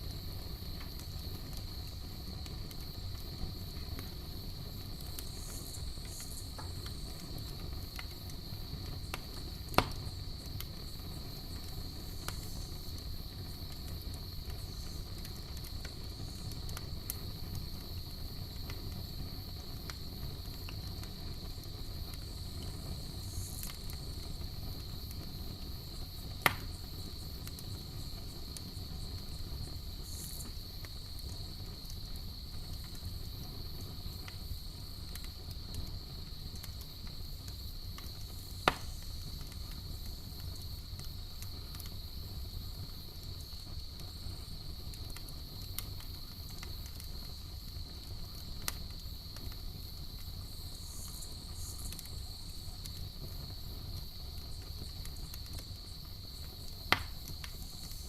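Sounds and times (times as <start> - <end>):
campfire burning: 0.0 - 58.0
night insects trilling: 0.0 - 58.0
sharp pops from fire: 0.0 - 58.0.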